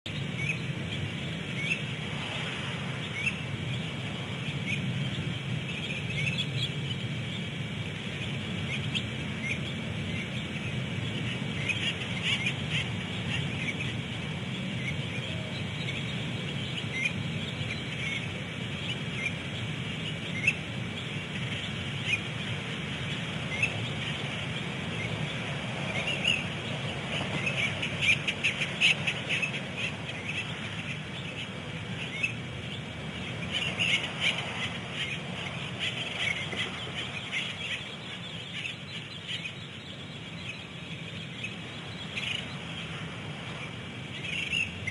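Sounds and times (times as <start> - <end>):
steady low hum: 0.1 - 44.9.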